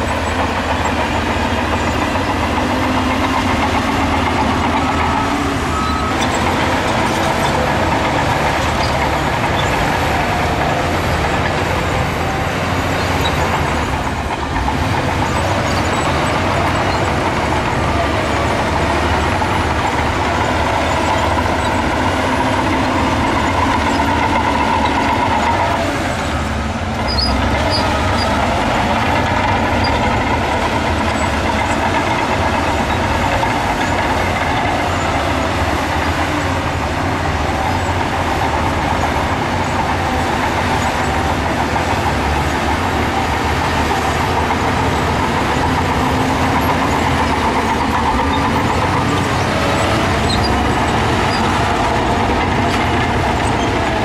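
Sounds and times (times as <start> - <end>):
heavy diesel machinery engine drone: 0.0 - 54.0.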